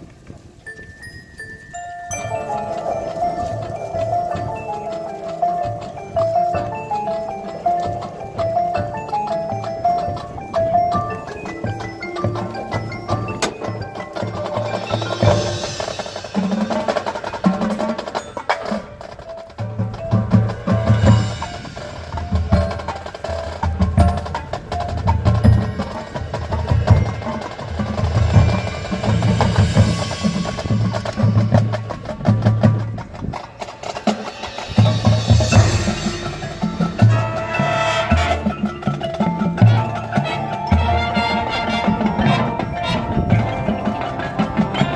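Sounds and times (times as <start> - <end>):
drums: 0.0 - 44.9
mallet instruments: 0.6 - 44.9
wood block: 0.8 - 44.9
marching band playing: 1.7 - 44.9.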